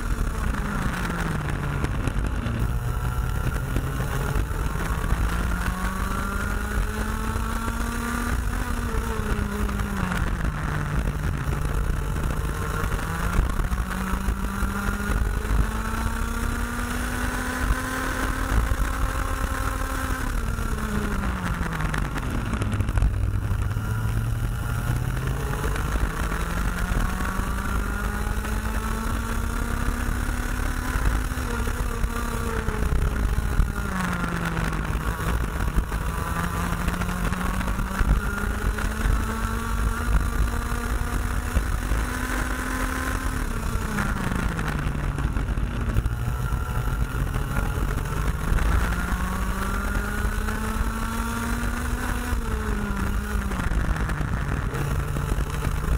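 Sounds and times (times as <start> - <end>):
two-stroke kart engine racing: 0.0 - 55.9.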